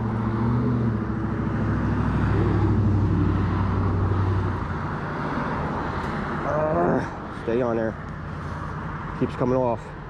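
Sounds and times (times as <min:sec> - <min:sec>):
passing vehicle engine drone: 0:00.0 - 0:09.2.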